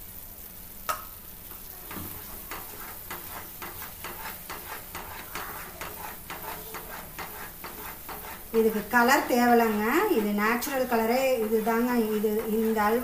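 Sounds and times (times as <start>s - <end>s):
soft sizzle: 0.0s - 13.0s
spatula scraping pan: 1.8s - 13.0s.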